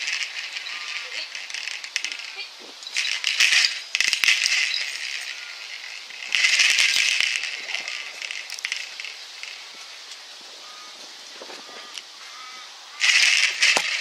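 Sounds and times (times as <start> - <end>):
branch rattling and rustling: 0.0 - 12.1, 13.0 - 14.0.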